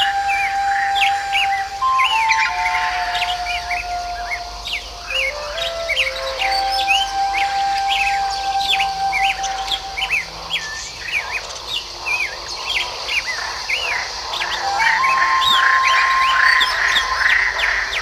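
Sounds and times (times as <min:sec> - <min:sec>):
birds chirping rapidly: 0:00.0 - 0:18.0.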